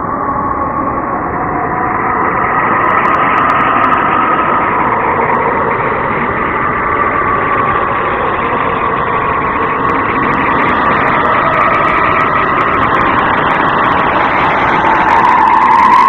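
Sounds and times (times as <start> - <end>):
synthesized noise drone: 0.0 - 16.0.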